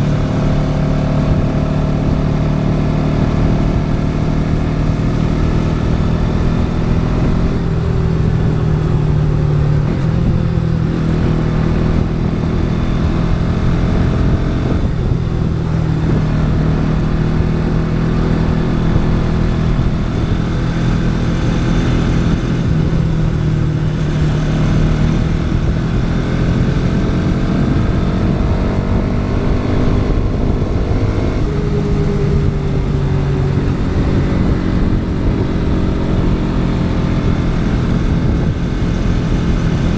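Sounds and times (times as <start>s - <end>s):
low wind rumble: 0.0s - 39.9s
motorcycle engine running: 0.0s - 39.9s.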